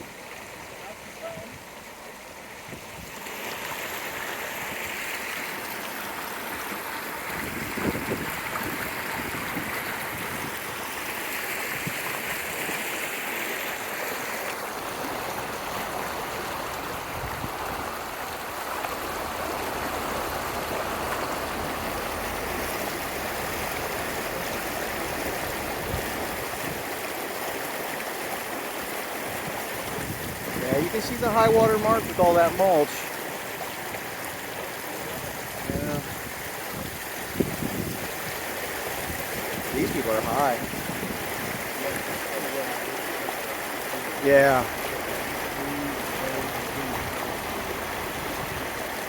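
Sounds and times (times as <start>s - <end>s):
water rushing and splashing: 0.0s - 49.0s.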